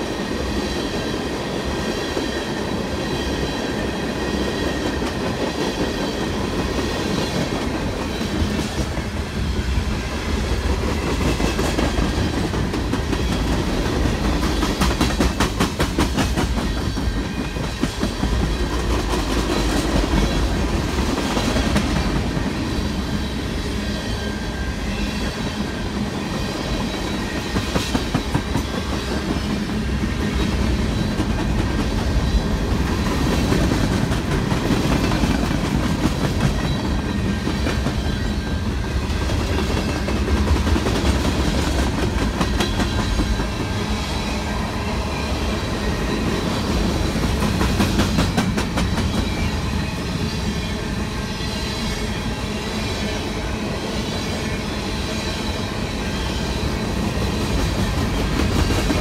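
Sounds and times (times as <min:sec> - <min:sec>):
freight train rolling: 0:00.0 - 0:59.0.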